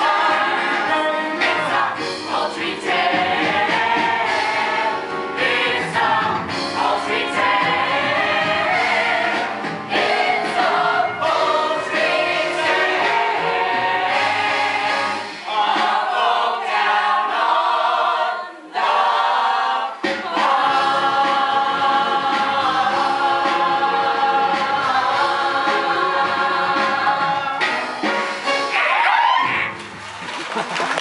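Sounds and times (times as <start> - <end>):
ensemble singing in chorus: 0.0 - 28.1.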